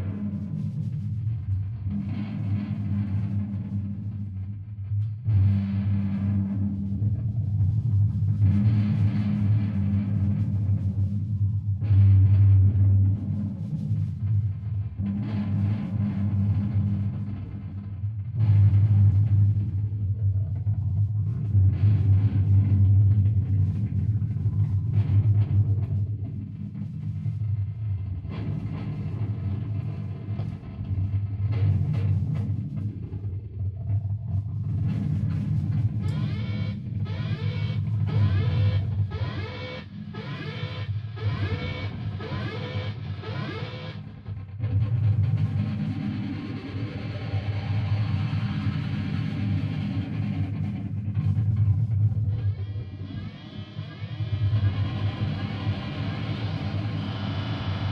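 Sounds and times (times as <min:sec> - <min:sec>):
low distorted drone: 0:00.0 - 0:57.9.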